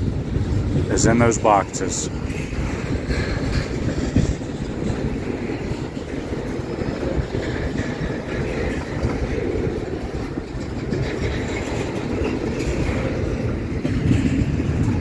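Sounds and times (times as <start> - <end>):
clickety-clack over rail joints: 0.0 - 15.0
freight train wheels rumbling: 0.0 - 15.0.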